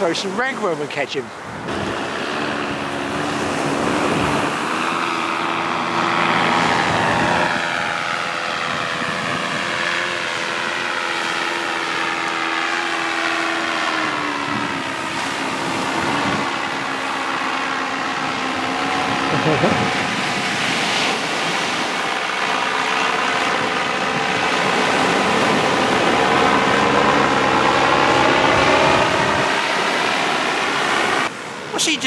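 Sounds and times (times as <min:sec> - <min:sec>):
paramotor engine droning overhead: 0:00.0 - 0:32.0
wind noise on microphone: 0:01.4 - 0:12.1, 0:12.9 - 0:31.8.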